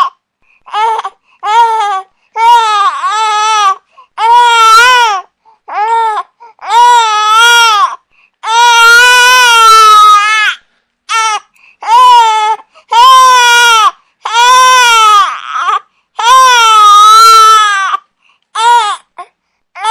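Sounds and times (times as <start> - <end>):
infant crying: 0.0 - 19.9.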